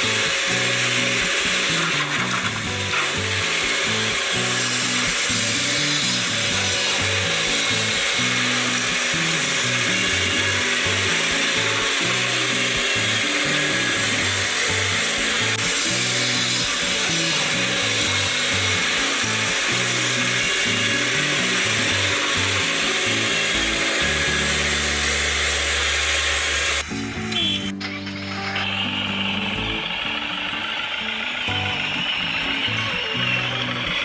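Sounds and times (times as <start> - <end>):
music with stepping bass line: 0.0 - 30.1
steady low drone: 0.0 - 30.2
loud steady rough noise: 0.0 - 34.0.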